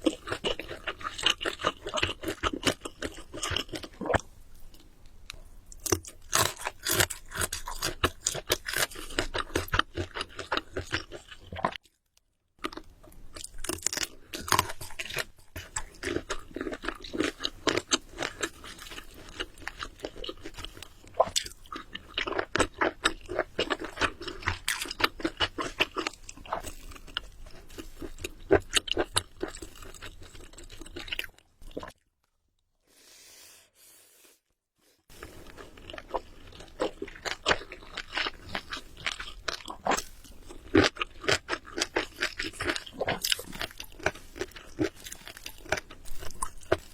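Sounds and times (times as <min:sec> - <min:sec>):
chewing and biting food: 0:00.0 - 0:04.8, 0:05.7 - 0:12.0, 0:12.6 - 0:32.0, 0:35.1 - 0:46.9.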